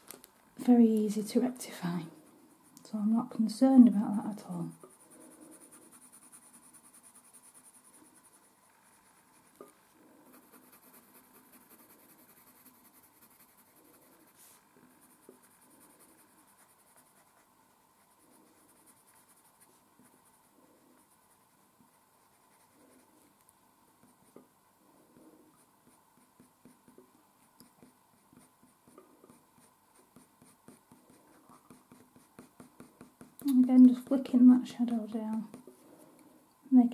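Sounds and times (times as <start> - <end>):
pencil scratching on paper: 1.1 - 36.0.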